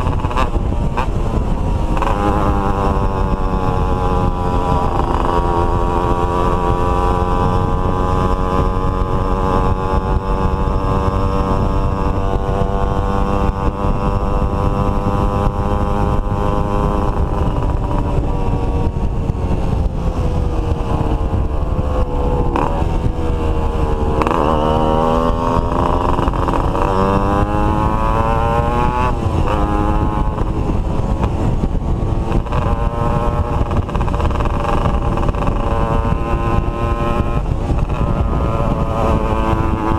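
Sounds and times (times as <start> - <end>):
two-stroke motorcycle engines: 0.0 - 39.9.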